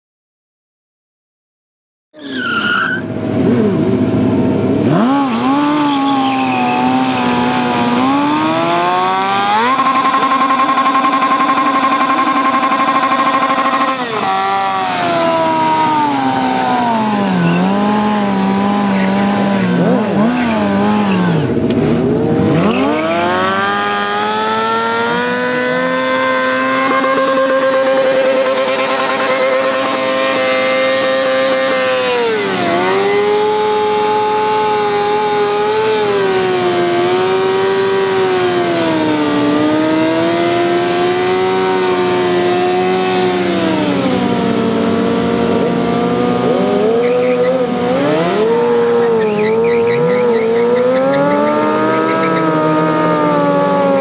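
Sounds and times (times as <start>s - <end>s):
rear tyre spinning in burnout: 2.2s - 3.2s, 4.9s - 21.7s, 22.5s - 54.0s
motorcycle engine at high revs: 3.0s - 54.0s.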